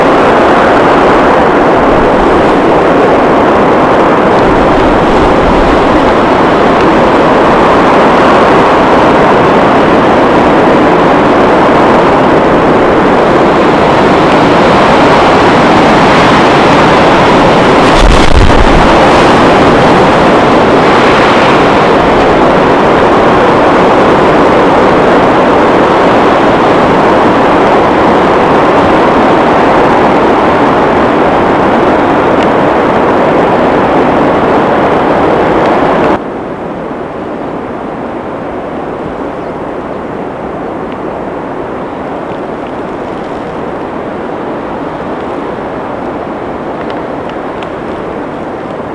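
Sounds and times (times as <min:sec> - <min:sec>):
blizzard wind blowing: 0:00.0 - 0:48.9
wind buffeting microphone: 0:00.0 - 0:48.9.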